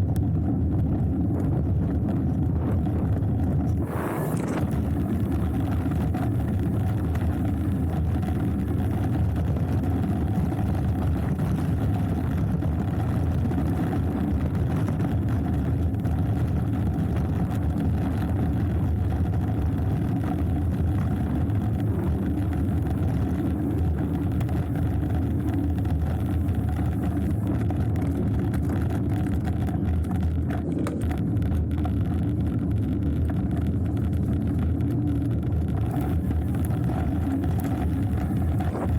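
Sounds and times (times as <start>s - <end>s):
bike tyres rumbling on dirt: 0.0s - 38.9s
bike rattling: 0.3s - 38.9s.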